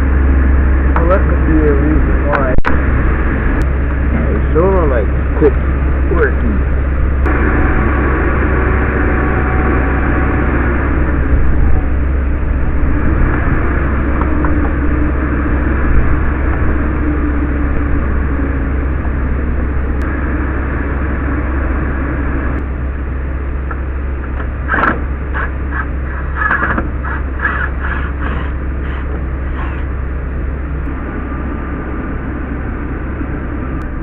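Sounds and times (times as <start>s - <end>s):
street sweeper running: 0.0s - 34.0s.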